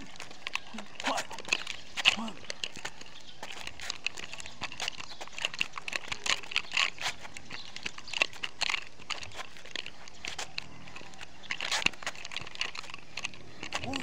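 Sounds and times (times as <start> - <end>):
nunchaku chain clicks and rattles: 0.0 - 14.0.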